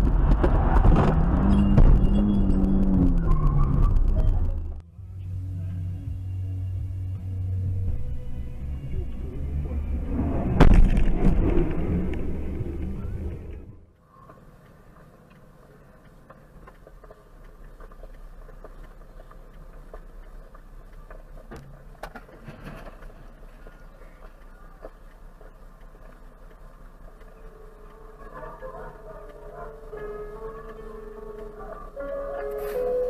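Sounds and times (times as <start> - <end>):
in-car road noise: 0.0 - 33.0
road and engine rumble: 0.0 - 33.0.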